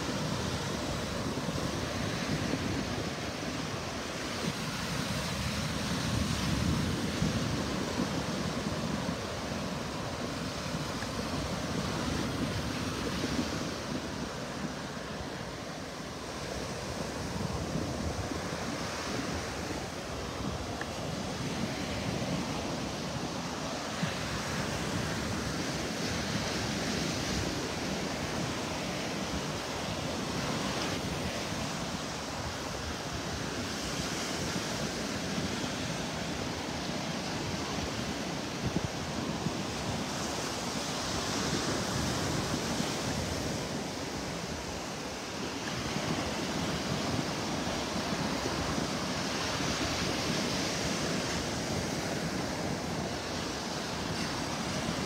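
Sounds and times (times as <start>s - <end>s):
ocean surf breaking on shore: 0.0s - 55.0s
wind on microphone: 0.0s - 55.0s.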